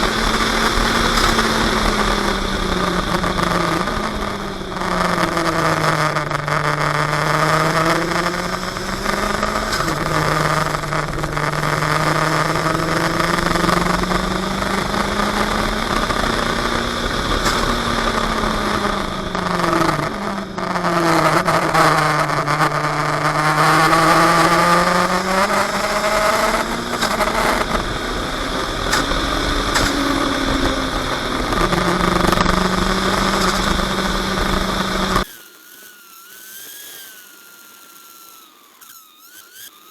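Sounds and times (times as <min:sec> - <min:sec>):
race car engine revving: 0:00.0 - 0:35.3
wind and road noise: 0:00.0 - 0:35.3.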